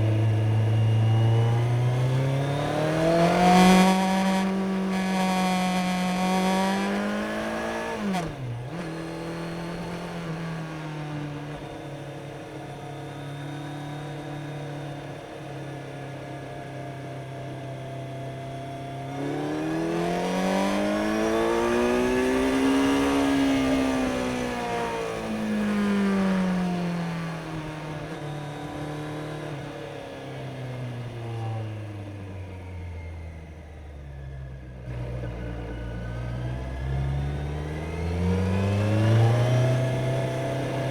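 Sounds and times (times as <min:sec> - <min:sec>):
motorcycle engine revving: 0:00.0 - 0:14.9, 0:18.0 - 0:40.9.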